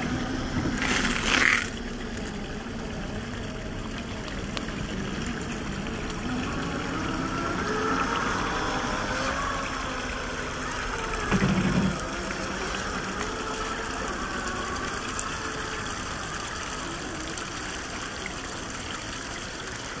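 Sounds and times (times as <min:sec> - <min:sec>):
electric toy truck motors whining: 0:00.0 - 0:03.1, 0:05.0 - 0:18.8
stream water over rock: 0:00.0 - 0:20.0.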